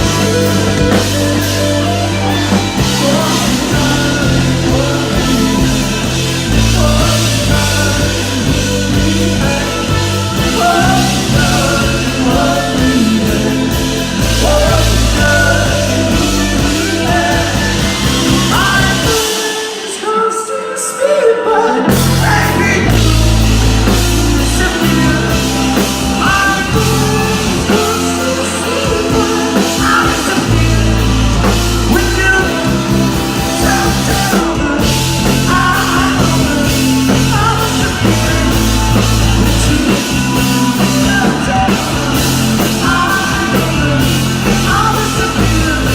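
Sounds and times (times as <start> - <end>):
person singing: 0.0 - 45.9
rock band playing live: 0.0 - 45.9.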